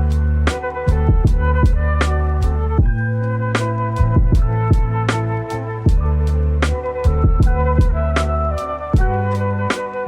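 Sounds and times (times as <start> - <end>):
lo-fi hip-hop beat: 0.0 - 10.0.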